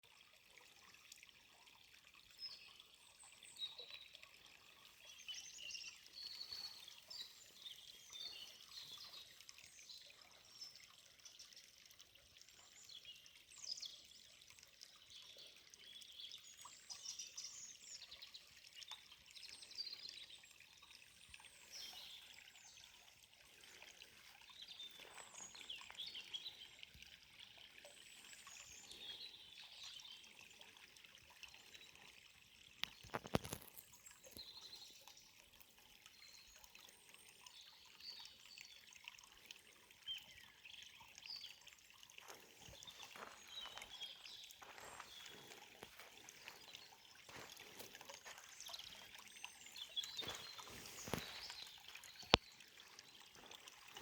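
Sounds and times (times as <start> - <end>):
trickle of running water: 0.0 - 54.0
songbirds chirping: 2.2 - 54.0.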